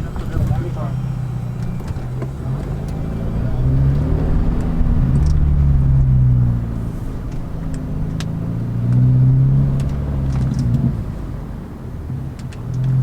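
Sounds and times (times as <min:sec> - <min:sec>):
car engine running: 0:00.0 - 0:13.0
road noise: 0:00.0 - 0:13.0.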